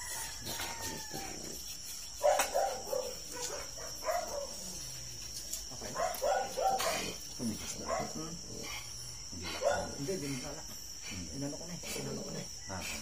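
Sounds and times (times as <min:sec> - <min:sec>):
high insect trill: 0:00.0 - 0:13.0.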